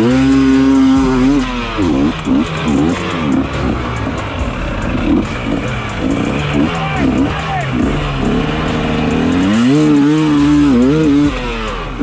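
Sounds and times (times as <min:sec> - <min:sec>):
background music: 0:00.0 - 0:12.0
dirt bike engine revving: 0:00.0 - 0:12.0.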